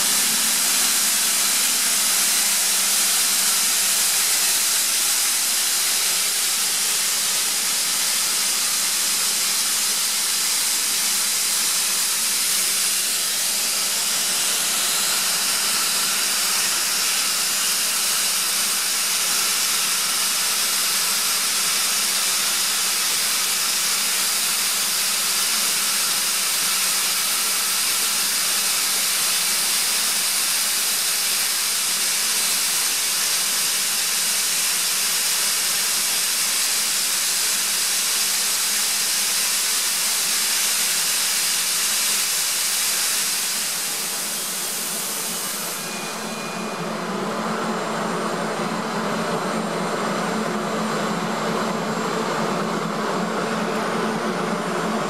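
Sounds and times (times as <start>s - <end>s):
air compressor hissing: 0.0s - 47.1s.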